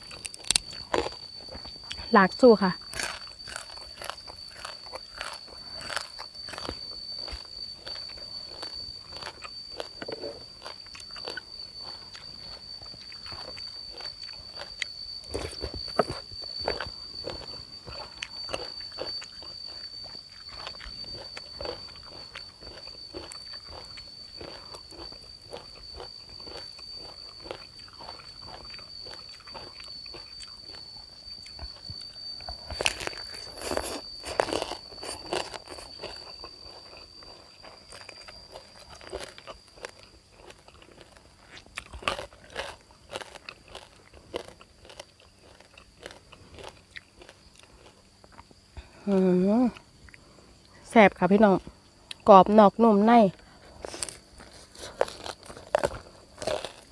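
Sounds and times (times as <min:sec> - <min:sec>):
crunching and chewing: 0:00.0 - 0:52.3, 0:53.2 - 0:56.9.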